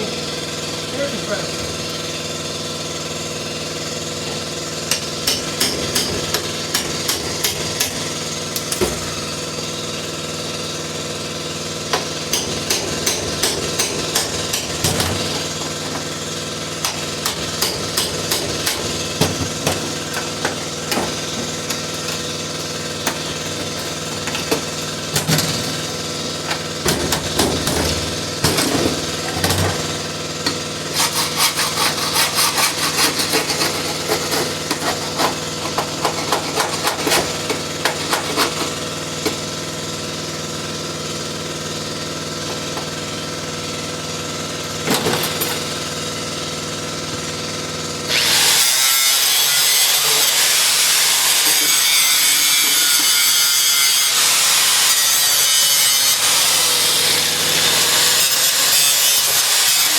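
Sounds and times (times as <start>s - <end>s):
air tool grinding on sheet metal: 0.4s - 59.9s.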